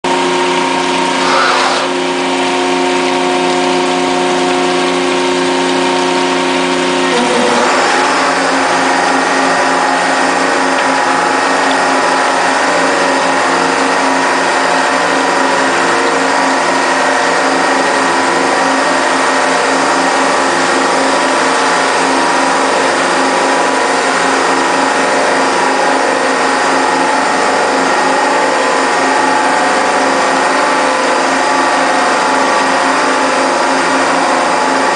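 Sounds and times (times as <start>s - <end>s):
grinder motor hum: 0.0s - 34.9s
pulsing whir with high whine: 0.1s - 34.9s.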